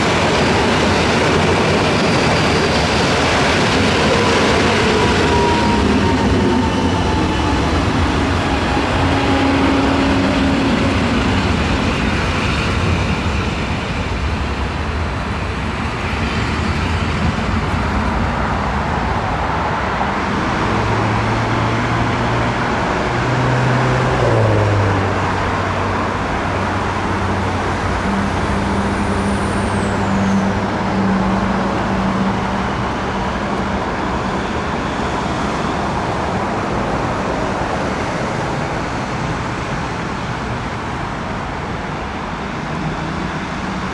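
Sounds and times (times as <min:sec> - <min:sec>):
train rumble: 0:00.0 - 0:43.9.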